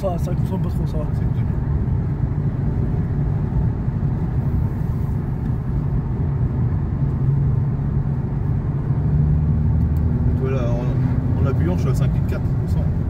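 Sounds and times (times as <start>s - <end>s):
car engine drone: 0.0s - 13.0s
road rumble: 0.0s - 13.0s.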